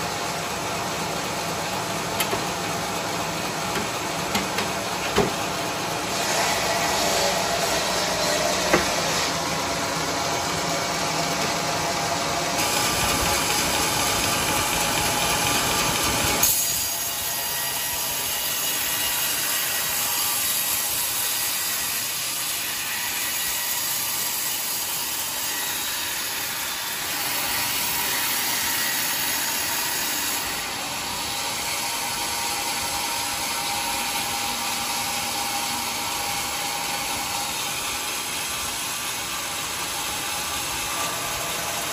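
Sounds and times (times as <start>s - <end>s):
band saw cutting log: 0.0s - 41.9s.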